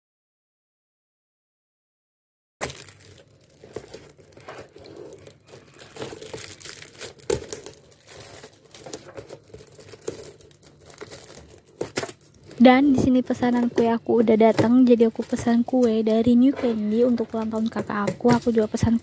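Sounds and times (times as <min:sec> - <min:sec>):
plastic wrapping crinkling: 0:02.6 - 0:19.0.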